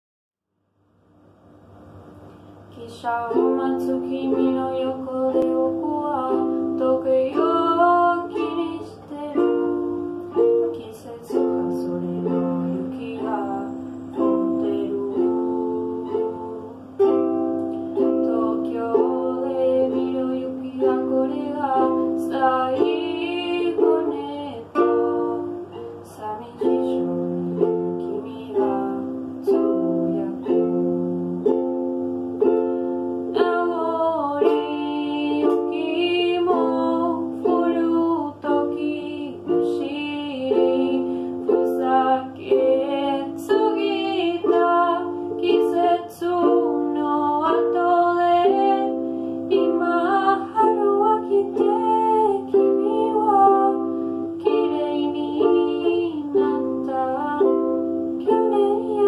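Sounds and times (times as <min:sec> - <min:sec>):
young woman singing a ballad: 0:02.7 - 0:31.7, 0:33.2 - 0:59.0
ukulele strumming chords: 0:02.8 - 0:59.0.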